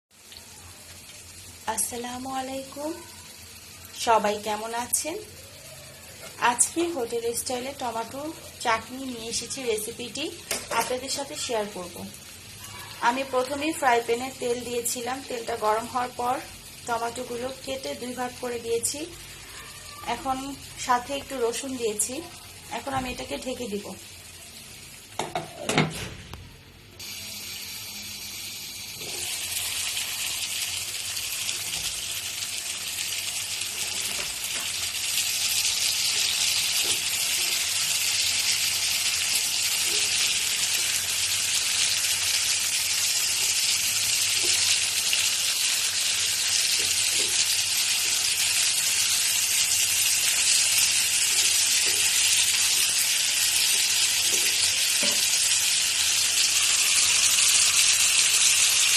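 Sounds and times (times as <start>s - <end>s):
food sizzling in hot oil: 0.1s - 25.7s, 27.0s - 58.9s.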